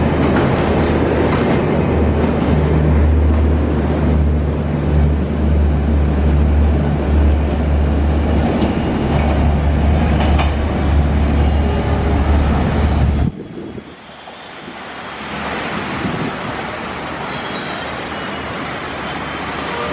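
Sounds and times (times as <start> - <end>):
train coaches rolling past: 0.0 - 19.9.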